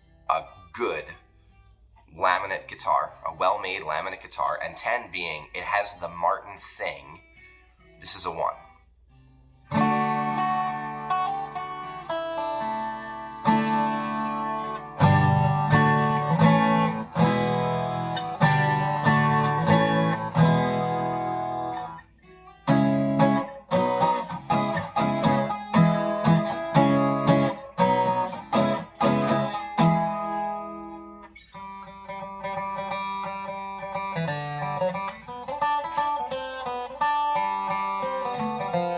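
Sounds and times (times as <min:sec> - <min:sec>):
acoustic guitar picked notes: 0:00.0 - 0:38.9
acoustic guitar strummed chords: 0:00.0 - 0:38.9.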